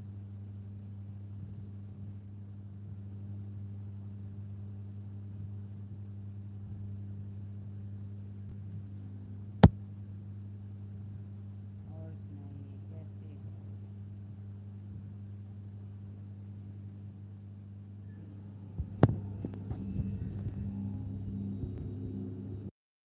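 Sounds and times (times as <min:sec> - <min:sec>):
low electrical hum: 0:00.0 - 0:22.7.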